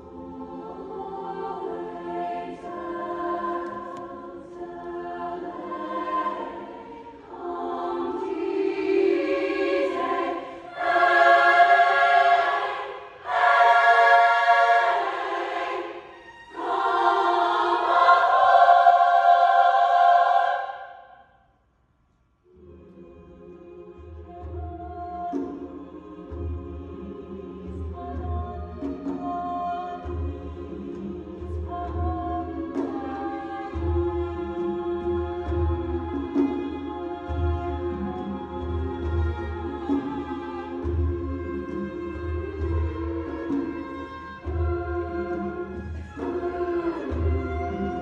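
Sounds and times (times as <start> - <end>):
women's choir singing in harmony: 0.0 - 21.3, 22.5 - 48.0.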